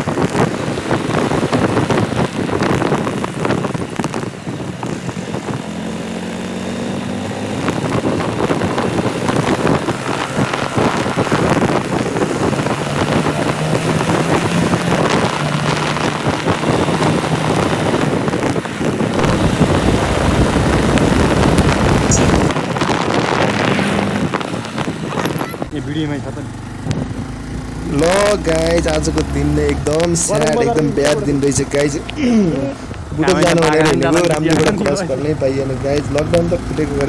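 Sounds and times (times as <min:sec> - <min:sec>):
motorcycle engine running: 0:00.0 - 0:37.0
wind buffeting microphone: 0:00.0 - 0:37.0.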